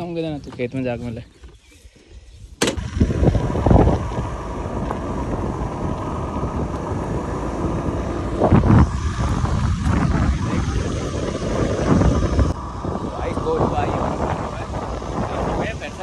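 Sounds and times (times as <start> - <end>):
wind rushing over microphone: 2.2 - 16.0
scooter engine running: 2.7 - 16.0.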